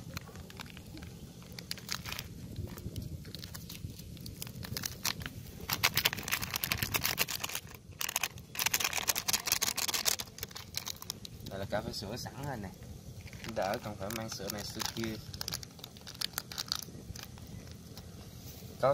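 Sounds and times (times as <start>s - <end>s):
plastic sachets crinkling: 0.0s - 11.6s, 13.2s - 18.1s
low steady rumble: 0.0s - 18.9s.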